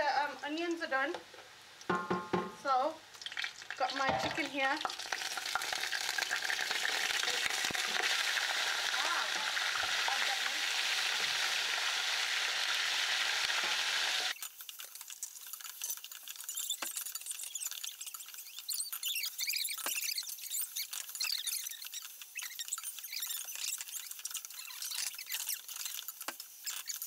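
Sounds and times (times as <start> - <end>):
chicken frying crackle: 2.7 - 27.0
chicken sizzling in oil: 2.7 - 27.0.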